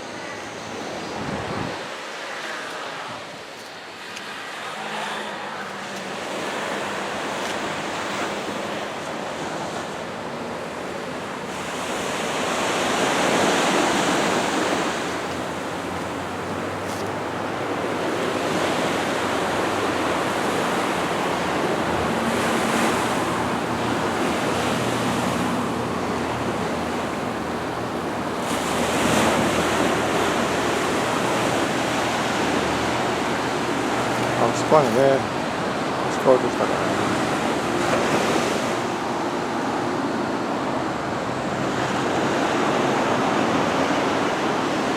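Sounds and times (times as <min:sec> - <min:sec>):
small waves washing onto beach: 0:00.0 - 0:44.9.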